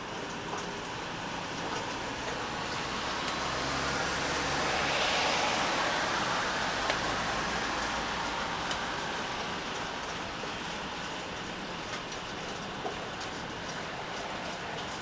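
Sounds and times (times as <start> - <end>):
steady rain falling: 0.0 - 15.0
vehicle passing on wet road: 0.2 - 15.0.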